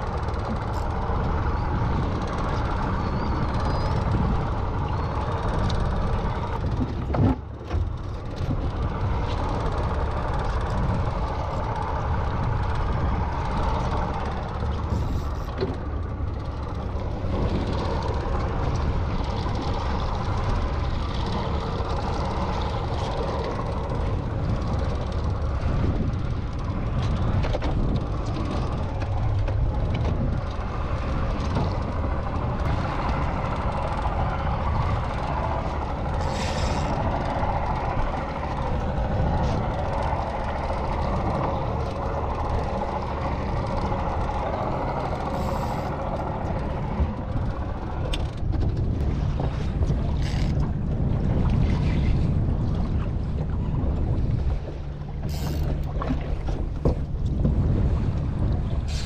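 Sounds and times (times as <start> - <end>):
outboard motor running: 0.0 - 59.0
water noise: 0.0 - 59.0
wind: 0.0 - 59.0.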